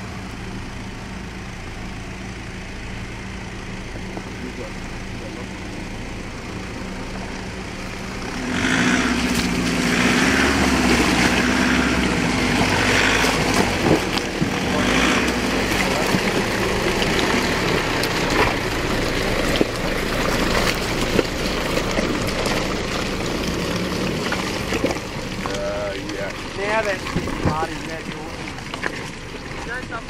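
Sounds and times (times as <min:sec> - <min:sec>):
engine droning under load: 0:00.0 - 0:30.0.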